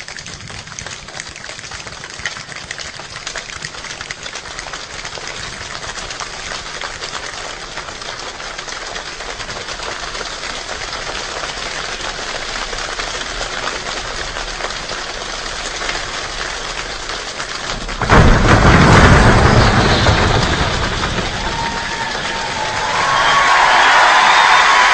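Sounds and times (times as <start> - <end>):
body percussion rain patter: 0.0 - 24.9.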